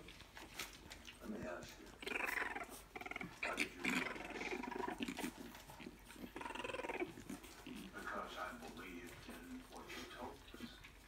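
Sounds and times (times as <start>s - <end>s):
puppies making short vocal sounds: 0.0s - 11.0s.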